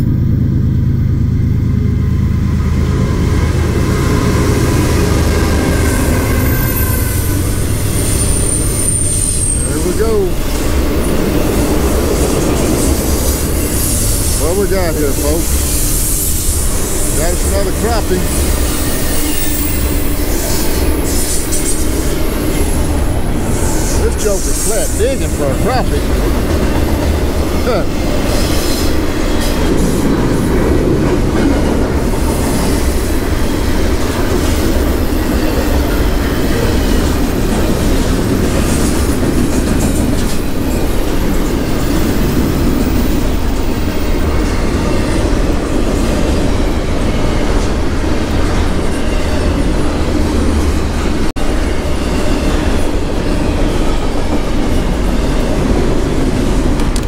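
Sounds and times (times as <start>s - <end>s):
freight train rumbling: 0.0s - 57.0s.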